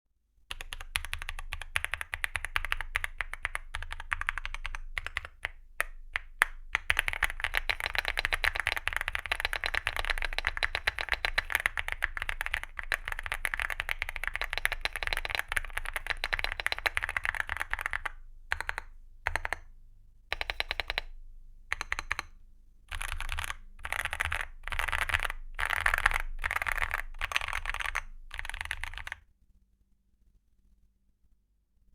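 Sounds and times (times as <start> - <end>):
mechanical keyboard typing: 0.5 - 19.7, 20.3 - 21.1, 21.7 - 22.3, 22.9 - 29.2.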